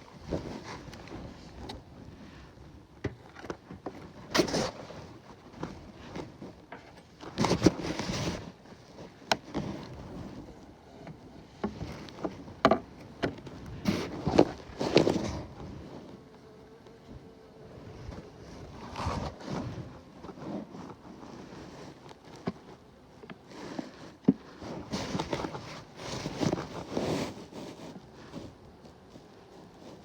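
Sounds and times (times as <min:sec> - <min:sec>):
fabric rustling over microphone: 0:03.8 - 0:12.6, 0:13.3 - 0:16.2, 0:17.1 - 0:22.8, 0:23.5 - 0:30.0.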